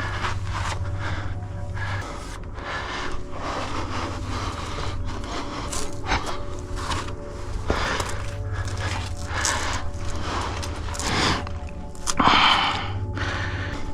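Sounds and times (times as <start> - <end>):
gear scraping against sandstone: 0.0 - 12.2.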